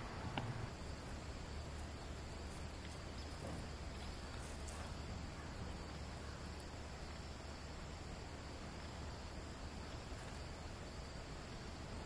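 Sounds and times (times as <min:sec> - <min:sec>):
constant low hum: 0:00.0 - 0:12.0
steady hiss: 0:00.0 - 0:12.0.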